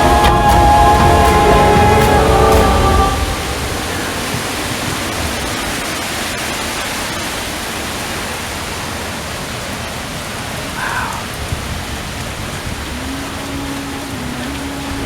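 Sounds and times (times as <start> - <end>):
wind rumbling on microphone: 0.0 - 8.8, 10.6 - 15.0
heavy rain: 0.0 - 15.0.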